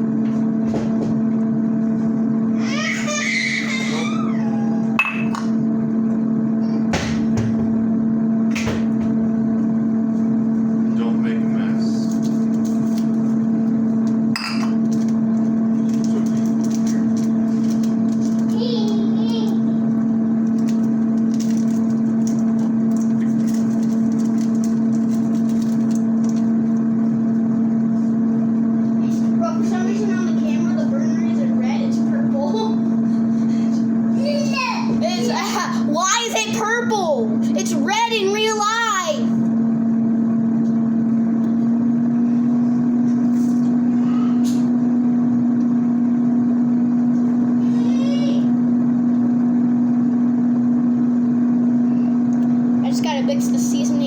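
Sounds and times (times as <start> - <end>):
electric motor hum: 0.0 - 54.0.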